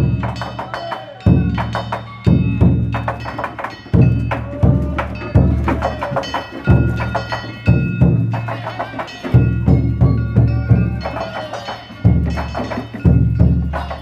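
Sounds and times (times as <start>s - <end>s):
hand gongs clanging: 0.0s - 14.0s
large drum beating: 0.0s - 14.0s.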